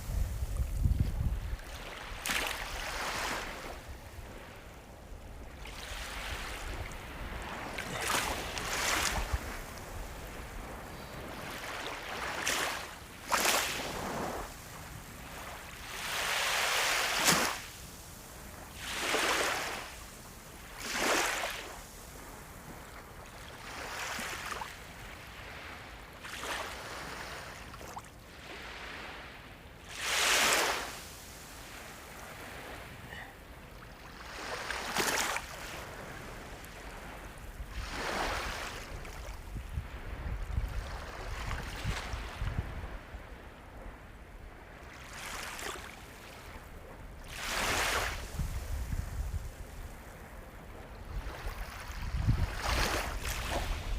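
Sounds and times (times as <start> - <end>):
sea waves washing in: 0.0 - 22.7, 28.4 - 53.9.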